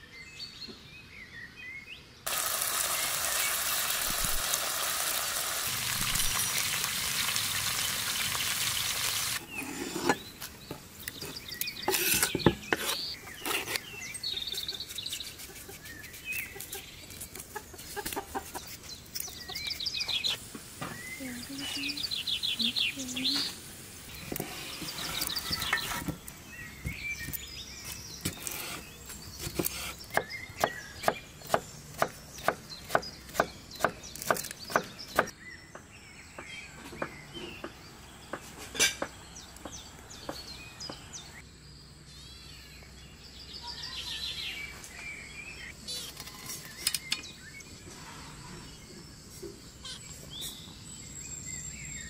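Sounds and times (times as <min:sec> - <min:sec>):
birds chirping: 0:05.9 - 0:52.0.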